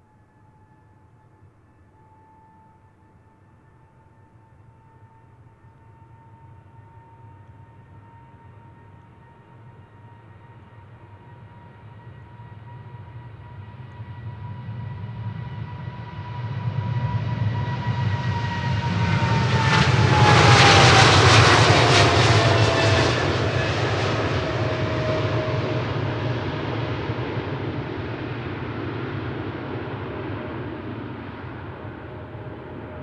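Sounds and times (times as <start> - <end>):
jet airliner engines roaring: 5.4 - 33.0.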